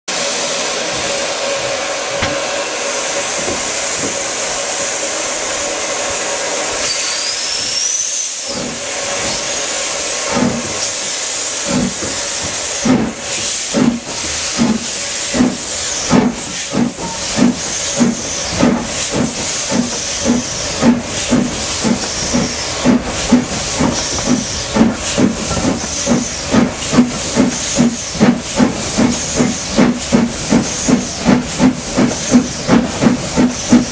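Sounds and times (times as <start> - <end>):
steam hissing: 0.1 - 33.9
steam locomotive exhaust beats: 0.1 - 33.9.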